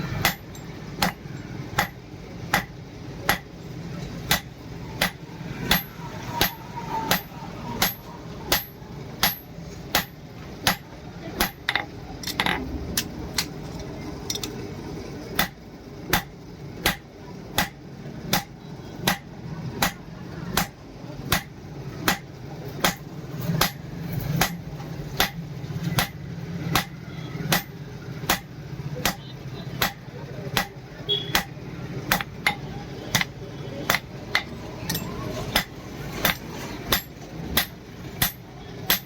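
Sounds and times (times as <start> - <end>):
hammer striking steel on anvil: 0.1 - 3.5, 4.2 - 12.6, 15.4 - 20.0, 20.6 - 23.0, 23.6 - 24.6, 25.2 - 25.4, 26.0 - 29.2, 29.8 - 39.0.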